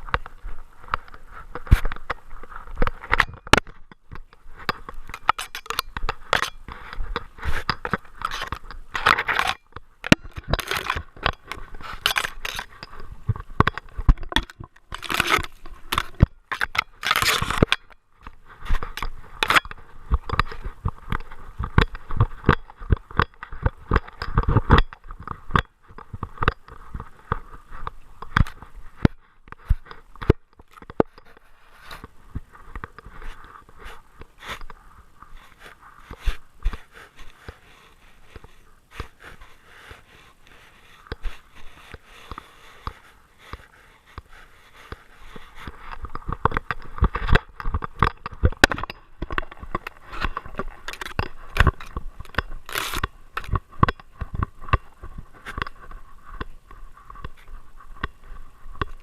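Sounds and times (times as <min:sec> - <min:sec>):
sharp clicks and knocks: 0:00.0 - 0:37.6, 0:40.5 - 0:59.0
crunching and scraping: 0:00.0 - 0:59.0.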